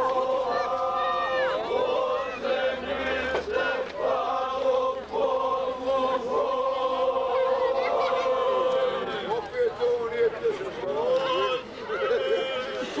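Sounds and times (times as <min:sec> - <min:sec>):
group singing in unison: 0:00.0 - 0:09.3, 0:10.8 - 0:13.0.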